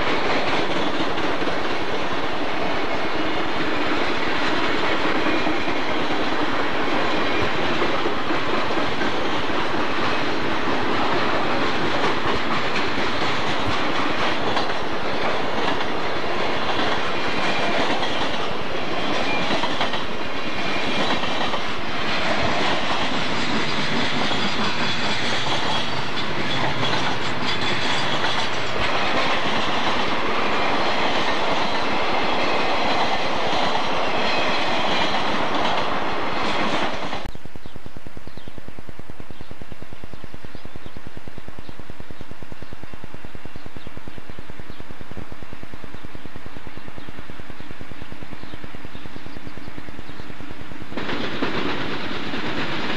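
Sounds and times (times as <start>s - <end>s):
train wheels clattering on rail: 0.0s - 52.9s.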